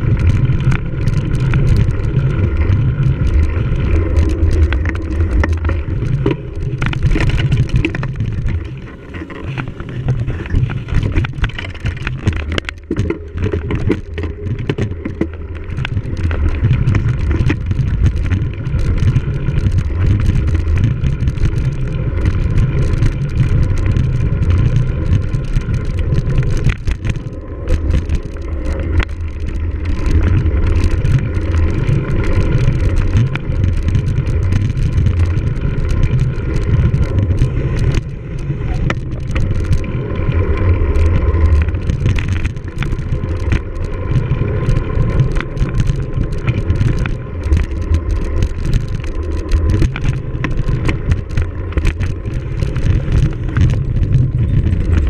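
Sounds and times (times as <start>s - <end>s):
bike rattles and knocks: 0.0s - 55.0s
wind rumble on microphone: 0.0s - 55.0s.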